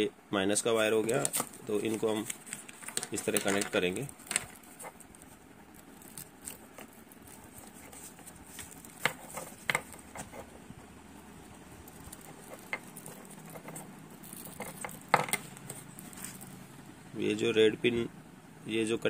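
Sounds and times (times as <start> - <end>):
fingers rubbing cable connector: 0.8 - 16.5.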